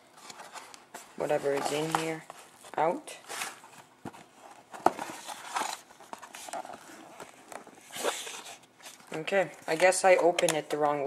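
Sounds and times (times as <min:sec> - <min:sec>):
box packaging rustling: 0:00.0 - 0:11.0.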